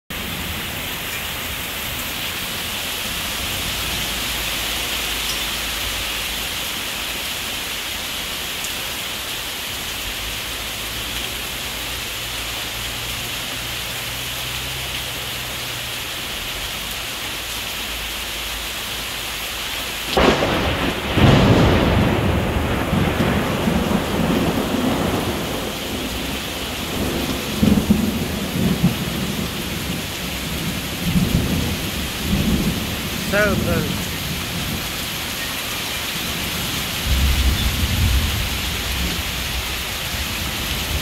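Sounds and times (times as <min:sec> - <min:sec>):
heavy rain on trees: 0:00.1 - 0:41.0.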